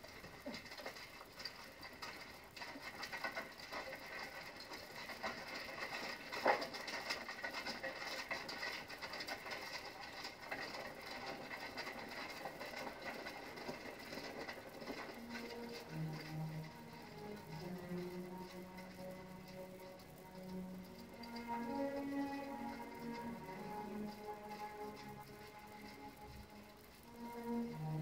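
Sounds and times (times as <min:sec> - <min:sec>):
carriage rattling: 0:00.0 - 0:28.0.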